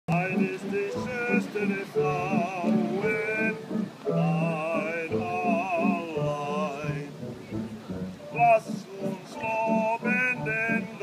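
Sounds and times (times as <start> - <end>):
man singing with vibrato: 0.1 - 7.4, 8.2 - 11.0.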